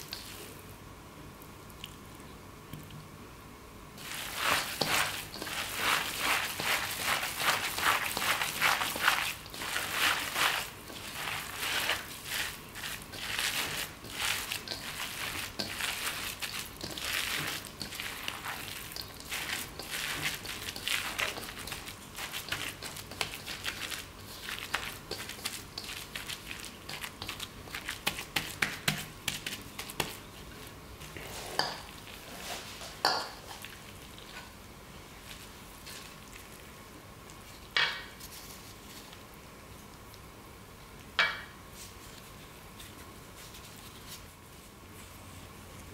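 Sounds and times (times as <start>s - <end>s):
hand mixing moist filling in bowl: 0.0s - 0.7s, 4.0s - 40.3s.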